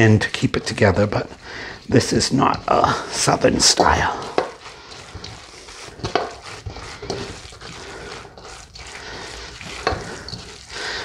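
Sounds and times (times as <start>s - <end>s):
stuffing stirred in mixing bowl: 0.0s - 11.0s.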